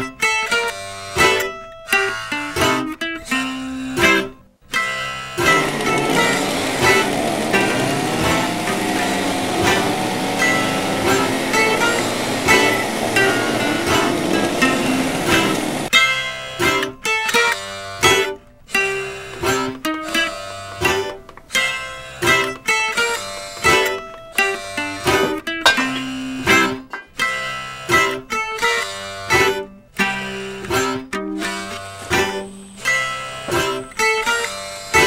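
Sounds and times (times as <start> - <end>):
plucked string tune: 0.0 - 35.0.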